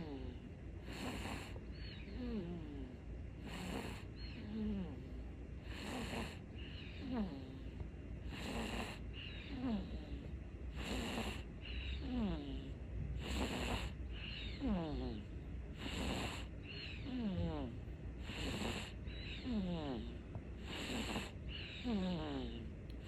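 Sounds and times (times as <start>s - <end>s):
rhythmic snoring: 0.0s - 22.7s.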